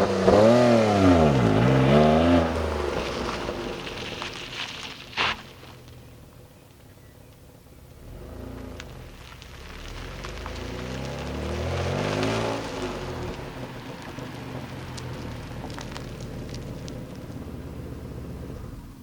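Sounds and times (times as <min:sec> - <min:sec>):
car engine revving: 0:00.0 - 0:04.2, 0:07.8 - 0:19.0.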